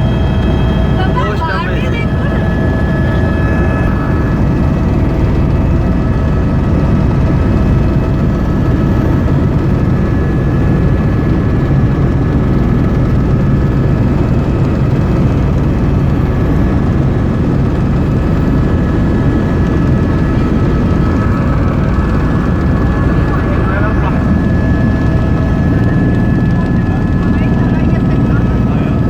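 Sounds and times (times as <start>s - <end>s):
whining tones: 0.0s - 12.1s, 16.1s - 29.0s
helicopter rotor and turbine drone: 0.0s - 29.0s.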